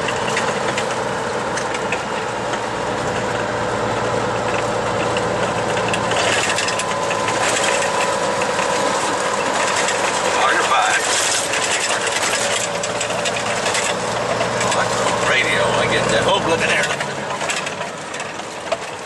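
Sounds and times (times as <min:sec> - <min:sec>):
truck clicks and rattles: 0:00.0 - 0:19.0
truck diesel engine running: 0:00.0 - 0:19.0.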